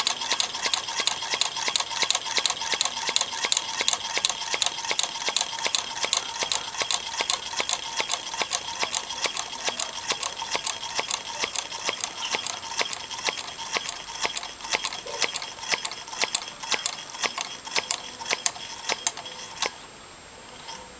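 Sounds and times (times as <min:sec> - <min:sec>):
small engine linkage clicking: 0:00.0 - 0:19.8.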